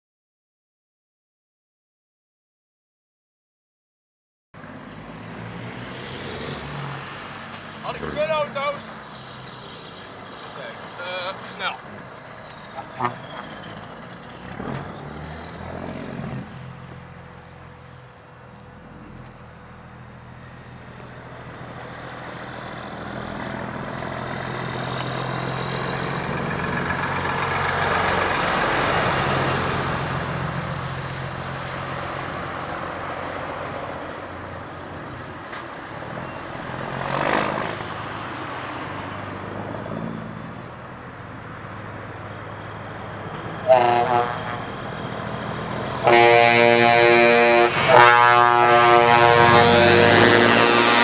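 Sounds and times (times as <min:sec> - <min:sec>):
truck diesel engine driving past: 0:04.6 - 0:51.0.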